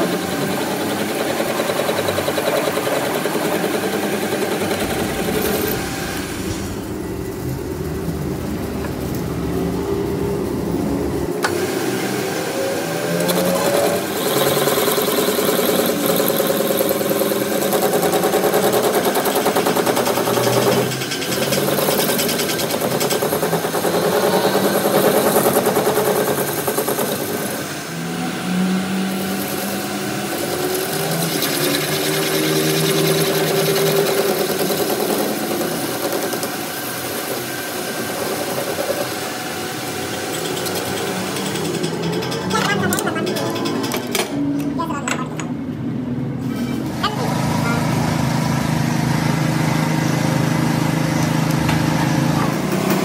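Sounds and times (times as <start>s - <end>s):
lathe machine hum: 0.0s - 44.2s.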